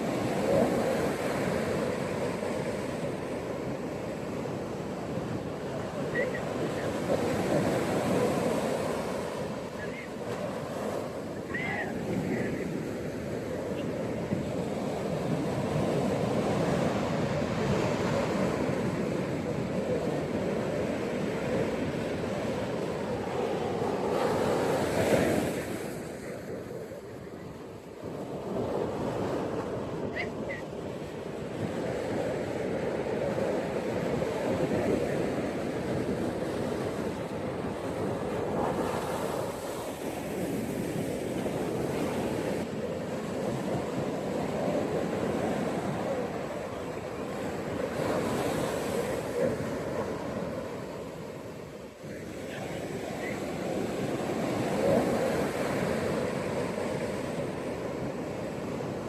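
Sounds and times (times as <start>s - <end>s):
ocean surf on a beach: 0.0s - 59.0s.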